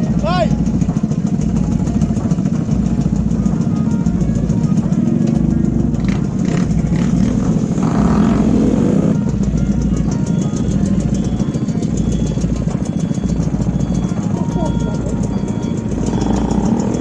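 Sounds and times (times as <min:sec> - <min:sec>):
scooter engines idling: 0:00.0 - 0:17.0.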